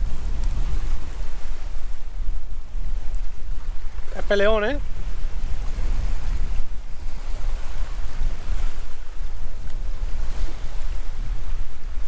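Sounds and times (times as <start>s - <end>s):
sea waves on shore: 0.0s - 12.0s
wind rumbling on microphone: 0.0s - 12.0s.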